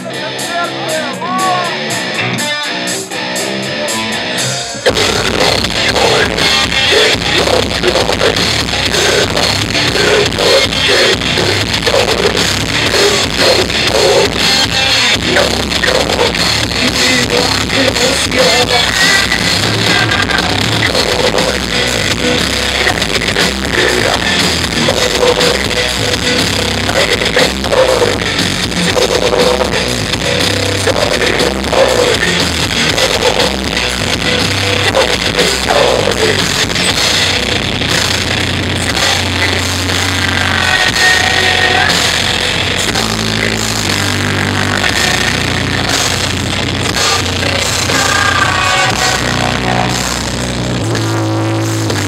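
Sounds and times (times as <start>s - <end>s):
bass guitar: 0.0s - 52.0s
distorted electric guitars: 0.0s - 52.0s
drum kit: 0.0s - 52.0s
person singing: 0.0s - 52.0s.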